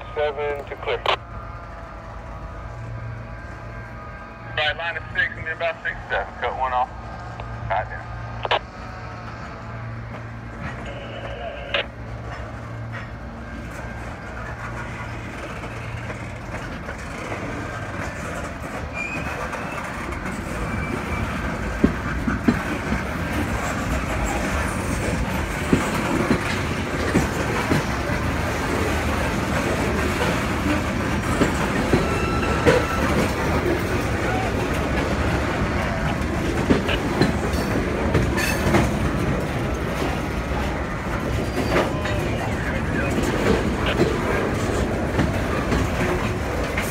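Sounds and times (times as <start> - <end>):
freight cars rumbling on track: 0.0 - 46.9.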